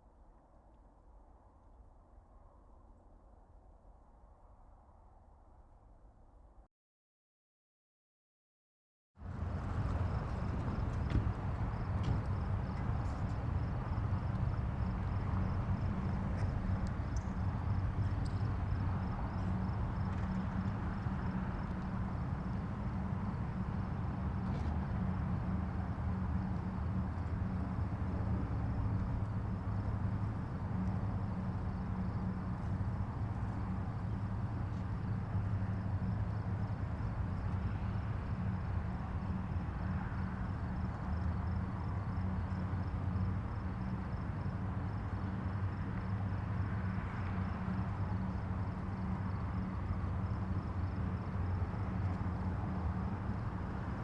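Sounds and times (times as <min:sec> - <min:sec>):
vehicle road noise: 0:09.2 - 0:54.0.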